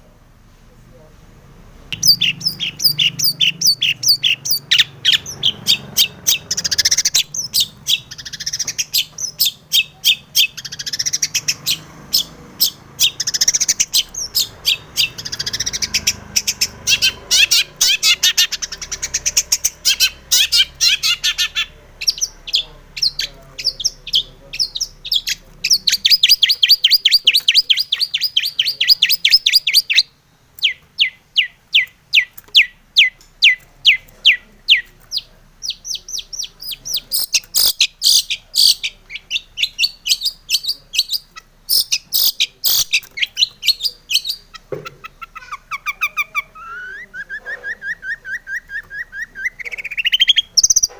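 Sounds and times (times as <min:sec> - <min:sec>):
bird chattering song: 0:01.9 - 0:50.9.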